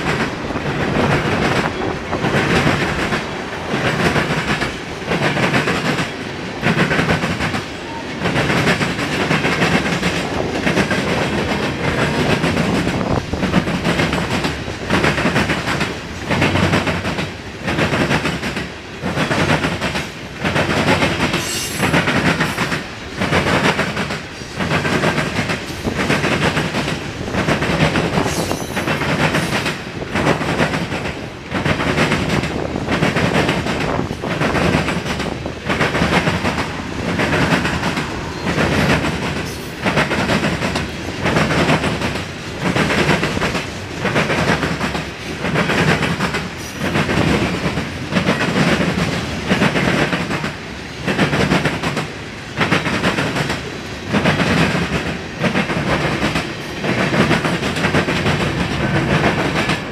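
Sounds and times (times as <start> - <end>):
train wheels clacking over rail joints: 0.0 - 59.9.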